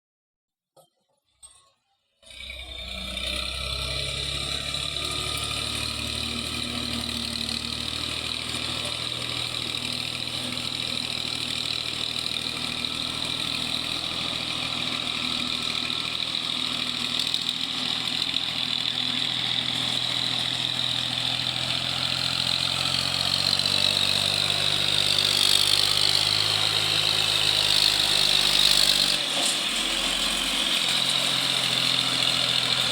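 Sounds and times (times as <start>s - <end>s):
tractor diesel engine running: 2.4s - 32.9s.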